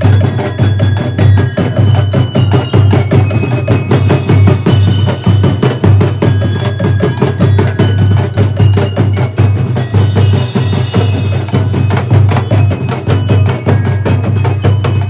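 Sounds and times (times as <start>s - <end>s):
bell-like notes: 0.0s - 15.0s
marching drum band: 0.0s - 15.0s.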